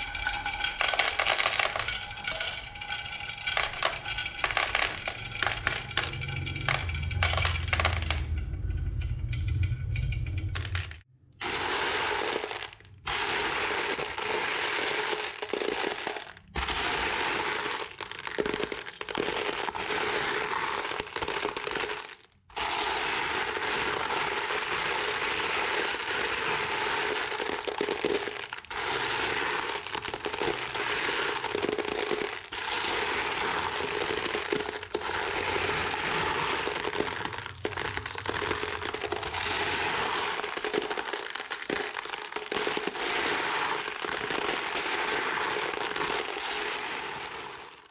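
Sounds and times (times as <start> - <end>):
marbles rattling down wooden run: 0.0 - 11.0, 11.8 - 47.9.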